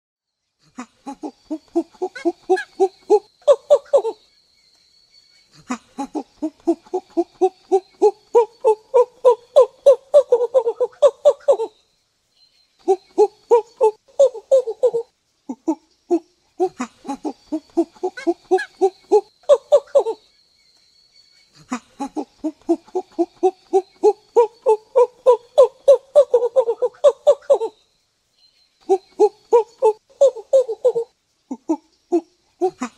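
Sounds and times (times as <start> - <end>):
monkey calling: 1.0 - 4.2, 5.5 - 11.7, 12.8 - 20.2, 21.5 - 27.7, 28.8 - 32.9.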